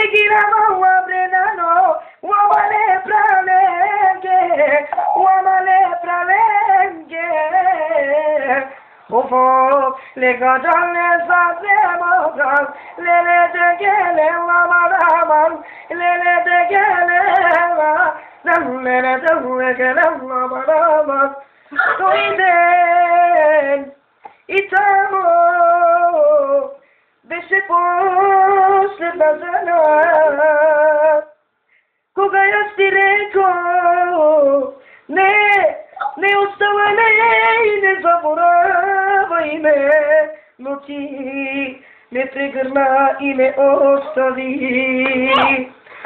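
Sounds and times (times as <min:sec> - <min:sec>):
boy singing unaccompanied: 0:00.0 - 0:31.4, 0:32.2 - 0:45.8.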